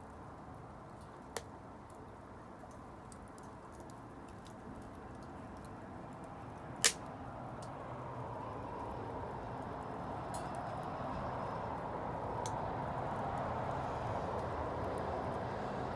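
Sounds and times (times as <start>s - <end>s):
wood fire burning: 0.0s - 15.9s.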